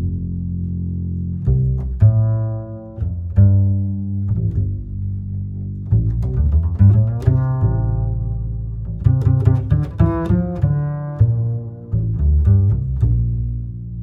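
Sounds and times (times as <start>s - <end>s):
bowed and plucked string music: 0.0s - 14.0s.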